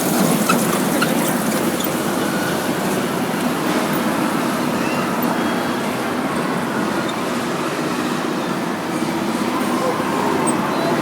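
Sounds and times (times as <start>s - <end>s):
vehicle running noise: 0.0s - 11.0s.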